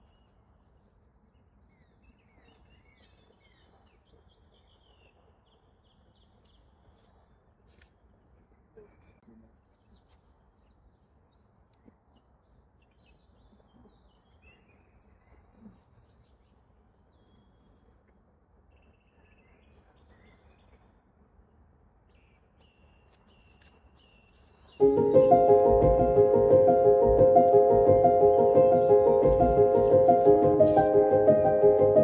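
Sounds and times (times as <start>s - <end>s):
small birds chirping: 0.0s - 21.1s, 22.0s - 32.0s.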